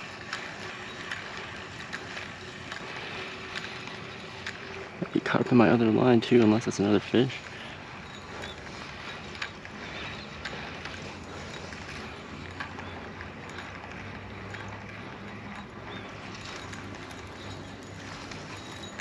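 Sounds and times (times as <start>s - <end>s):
spinning reel winding: 0.0s - 19.0s.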